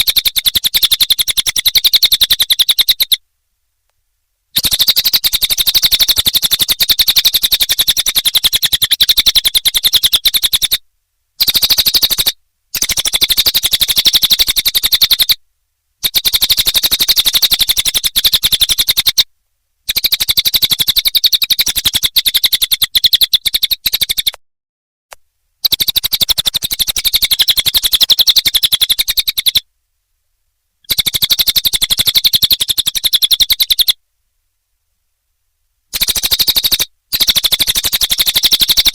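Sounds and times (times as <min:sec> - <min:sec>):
bird song rattling trill: 0:00.0 - 0:03.2, 0:04.5 - 0:10.8, 0:11.4 - 0:15.4, 0:16.0 - 0:24.4, 0:25.6 - 0:29.6, 0:30.8 - 0:34.0, 0:35.9 - 0:38.9.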